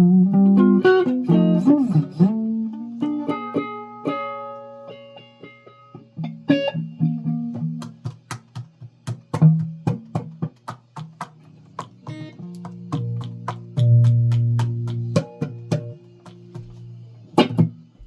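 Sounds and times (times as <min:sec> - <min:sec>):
plucked string instrument: 0:00.0 - 0:17.9.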